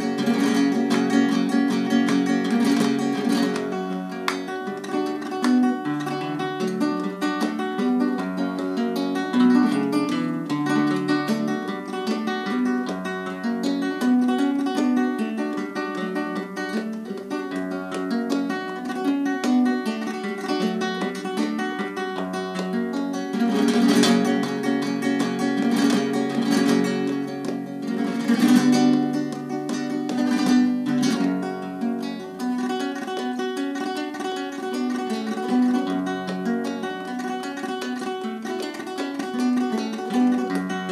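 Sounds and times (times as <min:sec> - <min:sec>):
flamenco guitar playing: 0:00.0 - 0:40.9.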